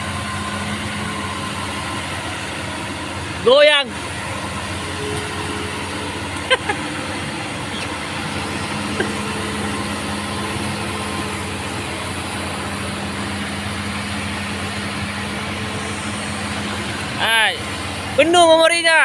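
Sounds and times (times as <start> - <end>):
diesel excavator engine running: 0.0 - 19.0.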